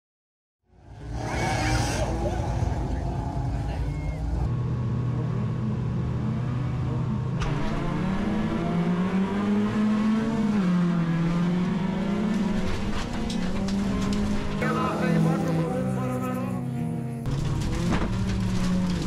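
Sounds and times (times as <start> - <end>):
race car engine revving: 0.9 - 19.0.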